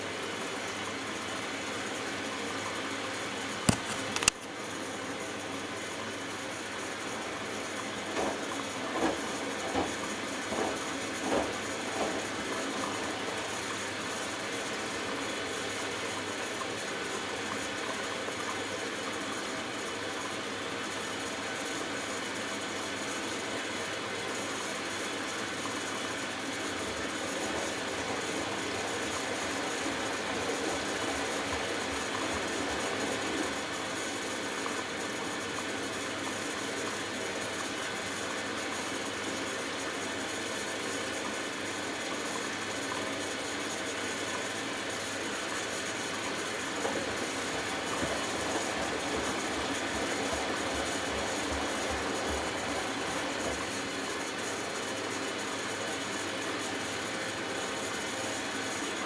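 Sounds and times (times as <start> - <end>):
washing machine hum and hiss: 0.0 - 59.0.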